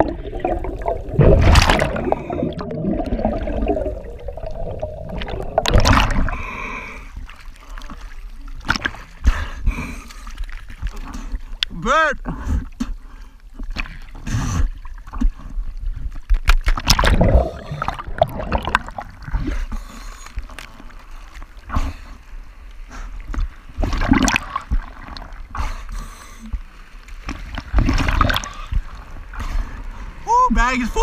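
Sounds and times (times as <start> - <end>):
low water rumbles: 0.0 - 31.0
sea water sloshing and splashing: 0.0 - 31.0.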